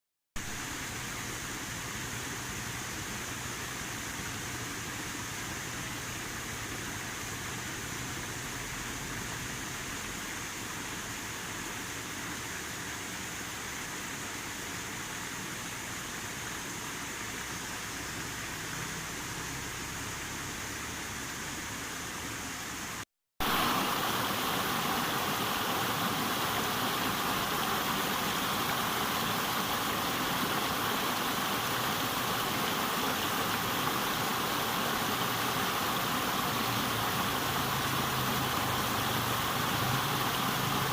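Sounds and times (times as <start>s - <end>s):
river water rushing: 2.6s - 40.9s.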